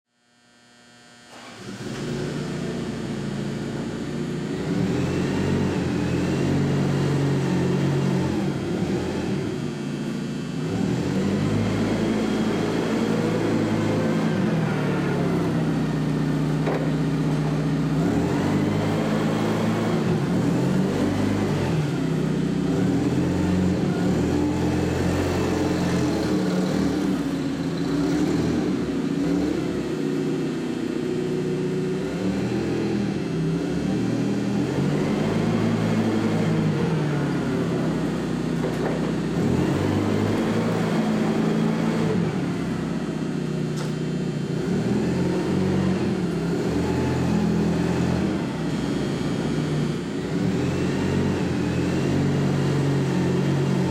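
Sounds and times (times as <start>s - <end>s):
forklift engine running: 0.4s - 53.9s.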